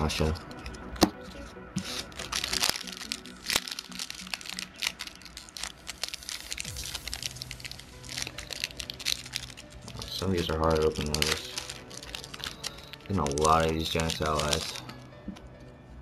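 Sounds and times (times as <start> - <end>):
foil wrapper crinkling and tearing: 1.2 - 15.4.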